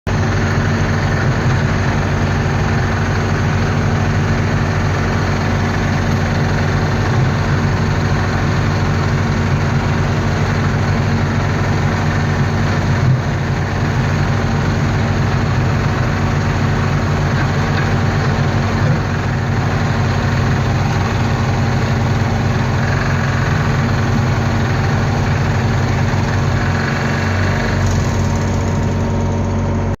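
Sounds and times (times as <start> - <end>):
dredging machine engine running: 0.1 - 30.0.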